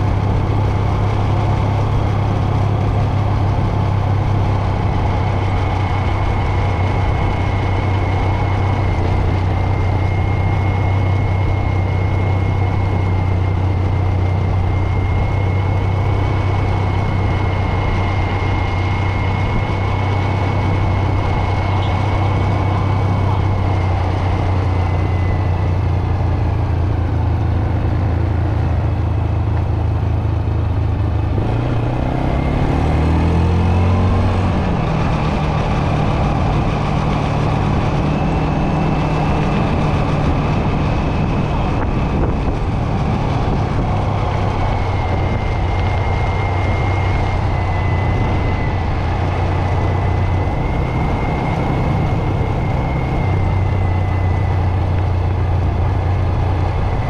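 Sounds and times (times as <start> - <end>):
atv engine running: 0.0 - 57.0
faint high whine: 0.0 - 57.0.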